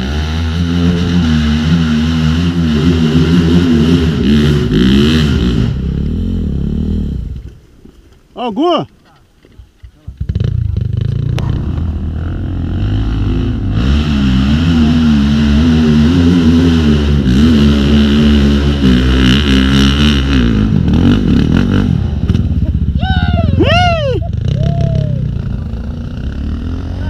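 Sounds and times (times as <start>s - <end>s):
dirt bike engine revving: 0.0s - 7.5s, 10.2s - 27.0s.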